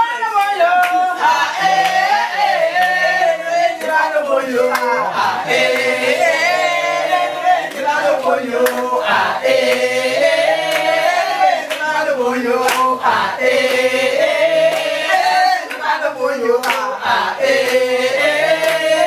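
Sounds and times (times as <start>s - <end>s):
men and women singing together: 0.0s - 19.0s.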